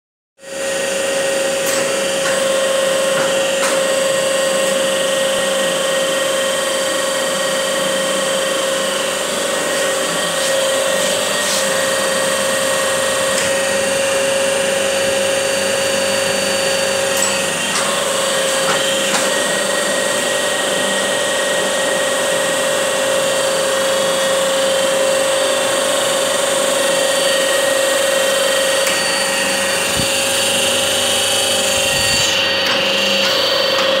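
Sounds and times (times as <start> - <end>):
milling machine humming: 0.4 - 34.0.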